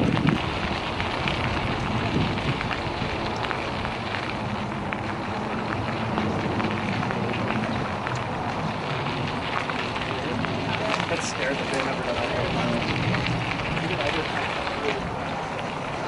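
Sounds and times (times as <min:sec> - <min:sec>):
bicycle tyres rolling on gravel: 0:00.0 - 0:16.0
wind on microphone: 0:00.0 - 0:16.0.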